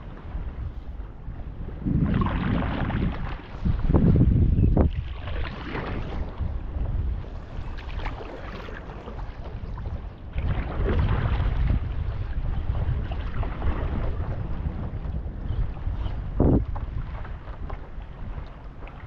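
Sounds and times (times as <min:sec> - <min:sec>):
wind rumbling on microphone: 0:00.0 - 0:19.0
water splashing and lapping: 0:01.8 - 0:19.0.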